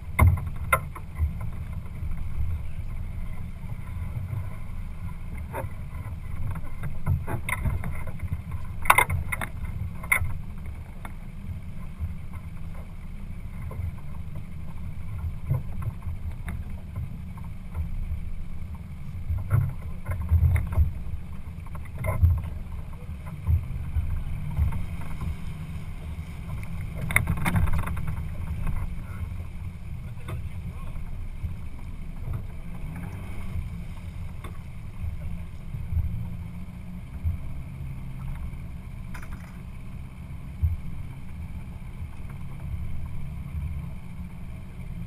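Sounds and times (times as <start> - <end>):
boat engine rumble: 0.0 - 45.0.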